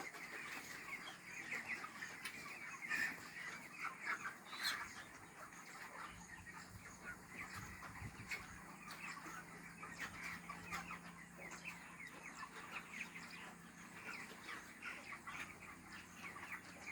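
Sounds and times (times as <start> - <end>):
chickens peeping and clucking: 0.0 - 16.9.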